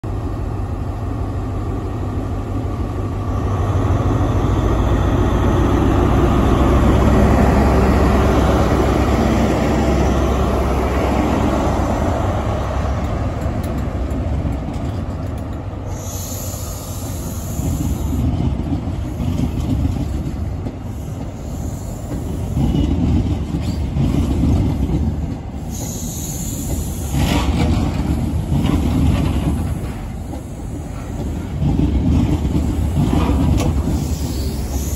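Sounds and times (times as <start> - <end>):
diesel locomotive engine rumble: 0.0 - 34.9
train wheels clacking on rails: 3.8 - 34.9.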